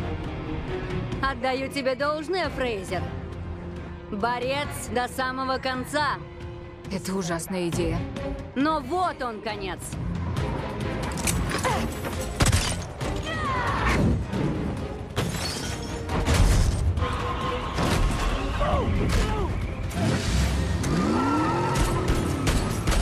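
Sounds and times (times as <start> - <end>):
dramatic film music: 0.0 - 23.0.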